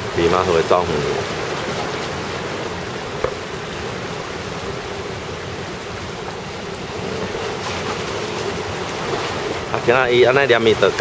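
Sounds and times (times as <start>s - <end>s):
rough sea and breaking surf: 0.0s - 11.0s.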